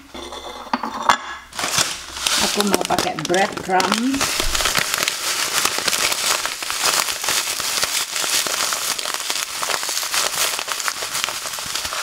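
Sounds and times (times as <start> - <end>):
plastic packet crinkling: 1.5 - 12.0
crumbs pouring onto a plate: 1.6 - 12.0.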